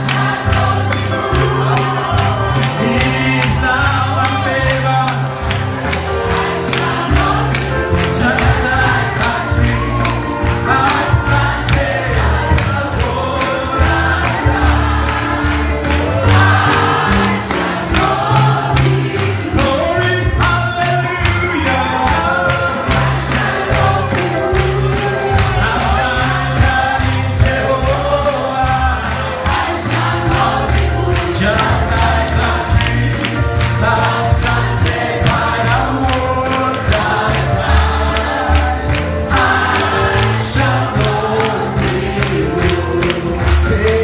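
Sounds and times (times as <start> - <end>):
amplified band with heavy bass: 0.0 - 44.0
congregation singing: 0.0 - 44.0.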